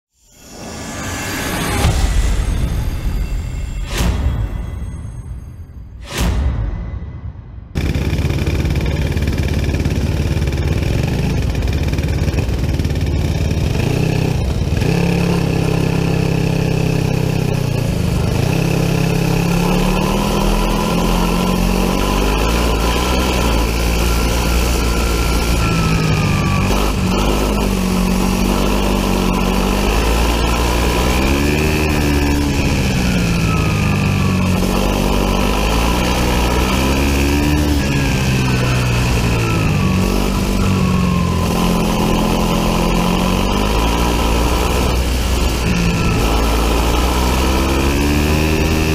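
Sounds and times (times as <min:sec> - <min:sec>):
kart engine revving: 0:07.8 - 0:48.9.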